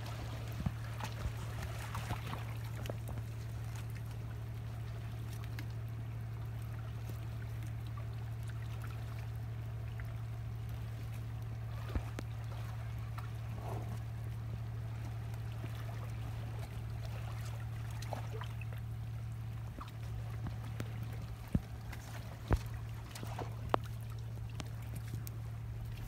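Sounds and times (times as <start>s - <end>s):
steady low hum: 0.0s - 26.0s
water lapping on rocks: 0.0s - 26.0s.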